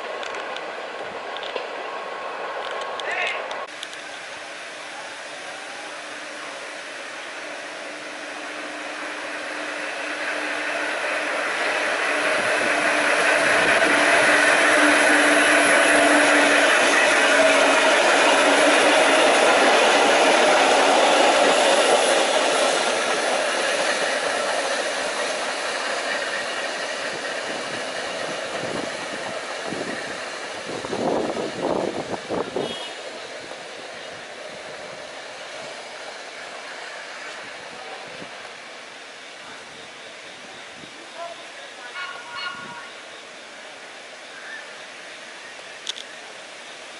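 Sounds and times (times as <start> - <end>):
subway train passing on tracks: 0.0 - 46.9.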